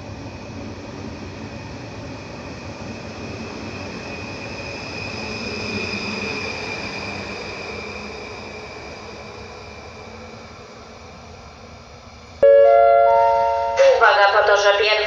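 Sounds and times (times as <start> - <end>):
electric train rumble and whine: 0.0 - 15.0.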